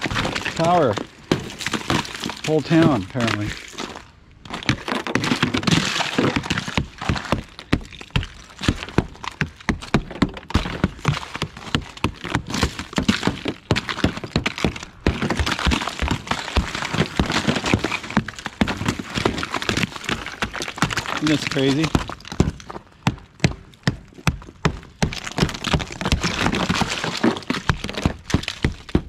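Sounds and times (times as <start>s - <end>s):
ice cracking and shattering: 0.0s - 22.8s, 24.9s - 29.0s.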